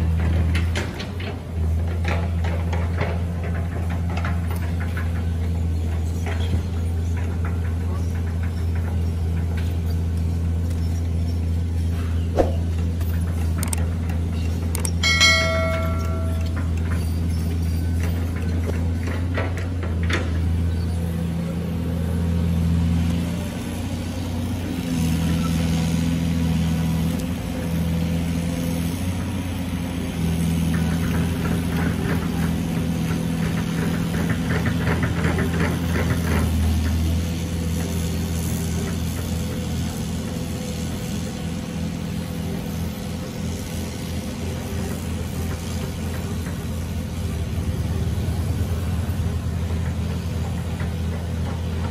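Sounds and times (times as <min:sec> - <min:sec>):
excavator diesel engine droning: 0:00.0 - 0:51.9.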